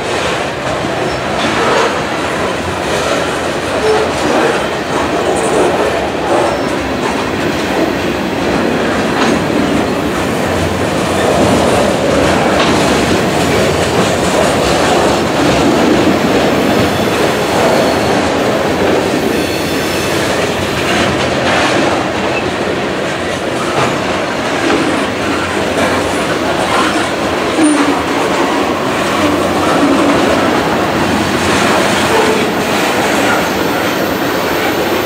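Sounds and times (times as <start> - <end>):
train wheels rumbling on rails: 0.0 - 35.0
wheels clacking over track: 0.0 - 35.0.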